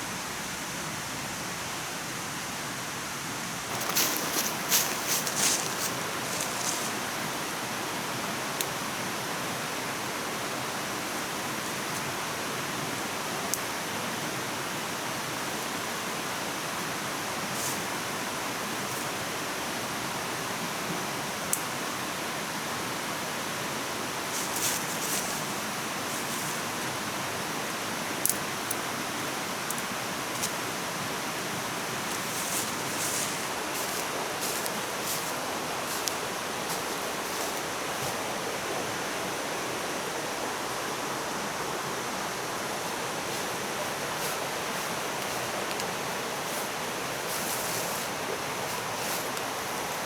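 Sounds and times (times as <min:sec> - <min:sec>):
campfire rushing hiss: 0:03.7 - 0:50.0.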